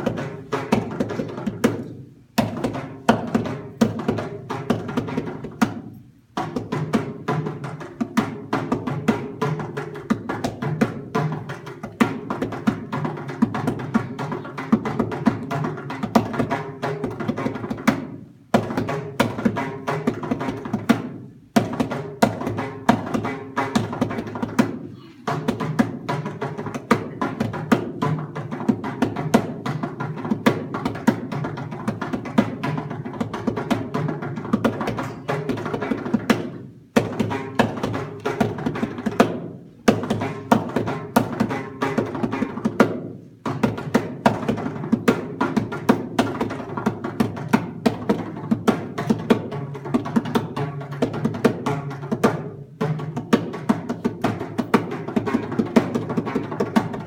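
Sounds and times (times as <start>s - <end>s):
barrel drum played solo: 0.0s - 57.0s.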